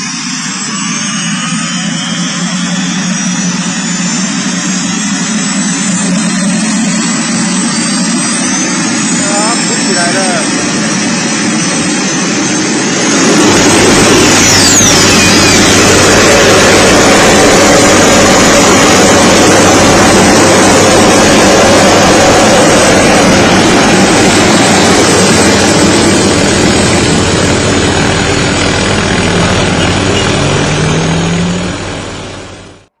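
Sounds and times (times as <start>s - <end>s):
jet-like launch rush: 0.0s - 32.9s.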